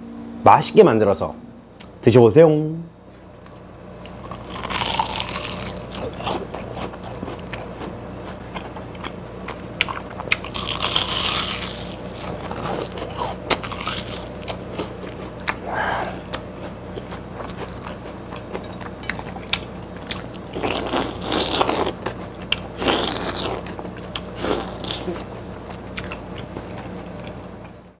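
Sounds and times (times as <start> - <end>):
crunching fried bread: 3.2 - 27.4
chewing: 3.4 - 27.8.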